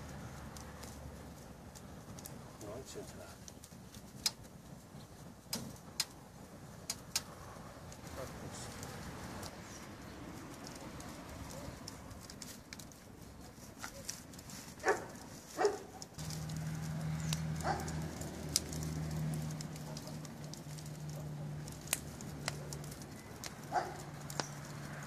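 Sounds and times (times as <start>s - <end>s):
fire pops: 0.0s - 25.0s
log fire crackling: 0.0s - 25.0s.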